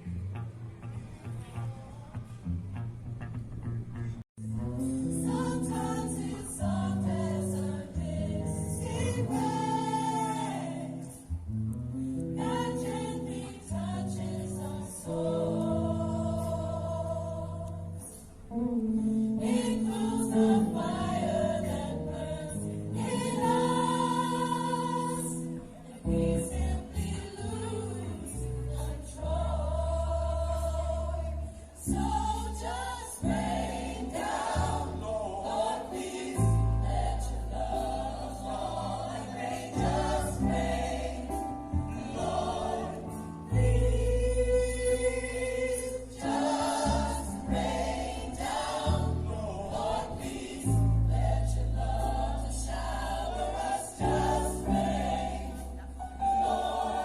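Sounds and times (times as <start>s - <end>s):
gospel choir singing: 5.0s - 11.5s, 12.1s - 57.0s.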